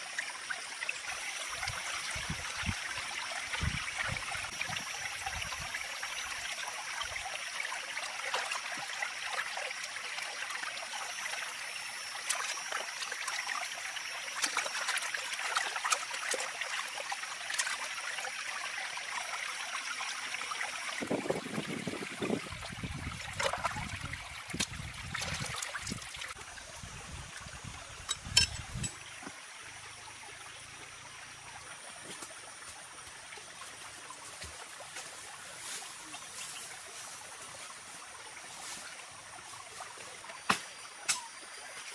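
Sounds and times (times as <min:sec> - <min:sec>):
stream water trickling and splashing: 0:00.0 - 0:41.9.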